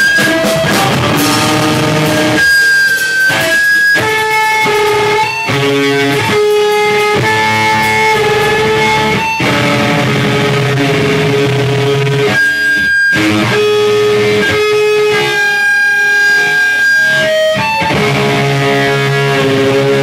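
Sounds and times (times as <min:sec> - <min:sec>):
drums: 0:00.0 - 0:20.0
electric guitar chords: 0:00.0 - 0:20.0.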